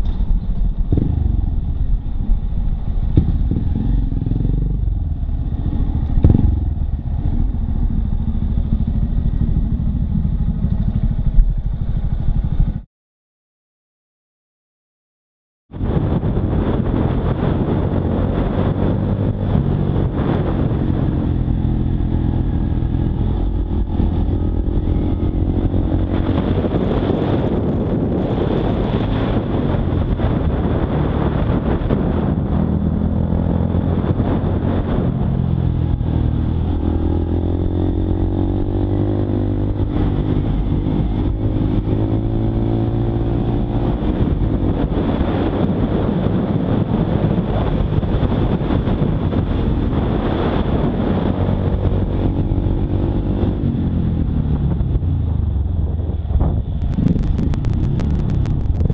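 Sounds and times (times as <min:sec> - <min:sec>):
motorcycle engine running: 0:00.0 - 0:12.8, 0:15.8 - 0:58.9.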